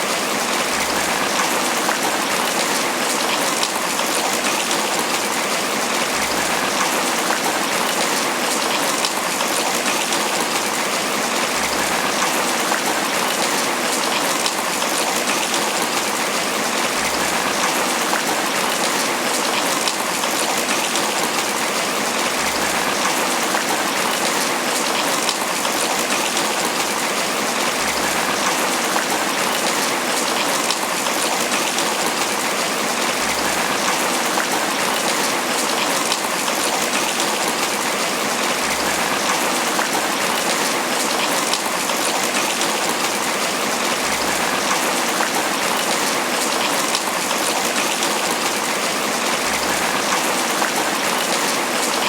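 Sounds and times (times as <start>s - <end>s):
rain on leaves: 0.0s - 52.0s.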